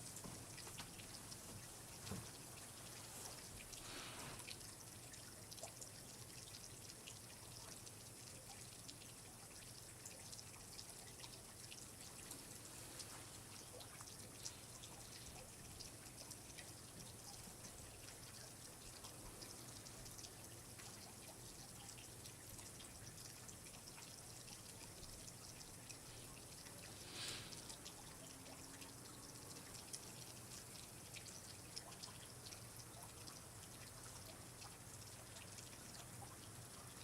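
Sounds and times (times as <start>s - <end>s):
soft steady hiss: 0.0s - 37.0s
water dripping and trickling: 0.0s - 37.0s.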